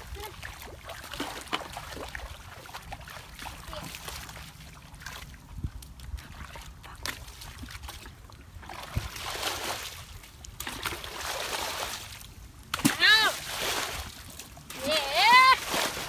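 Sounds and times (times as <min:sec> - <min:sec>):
bucket sloshing through water: 0:00.0 - 0:16.0.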